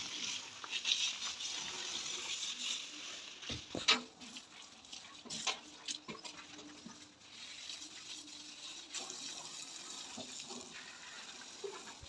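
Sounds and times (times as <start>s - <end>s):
hose water spraying on metal: 0.0s - 12.0s.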